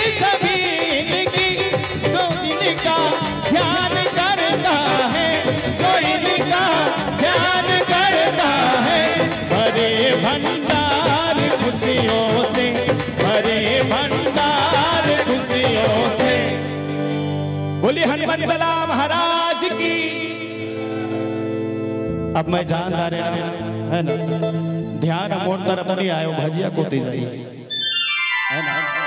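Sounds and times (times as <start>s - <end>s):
devotional song with harmonium and drum: 0.0s - 29.0s.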